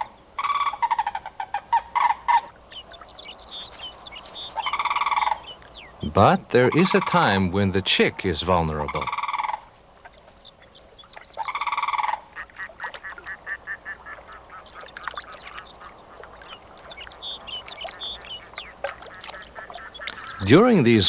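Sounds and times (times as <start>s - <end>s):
crane calling: 0.0s - 21.0s.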